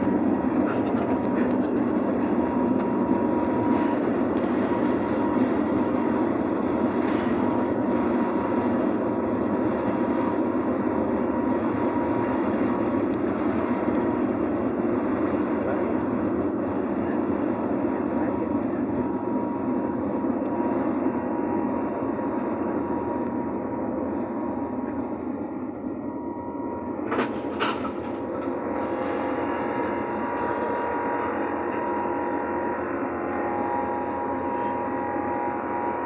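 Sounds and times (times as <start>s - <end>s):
airplane cabin engine rush: 0.0s - 36.0s
faint steady whine: 0.0s - 36.0s.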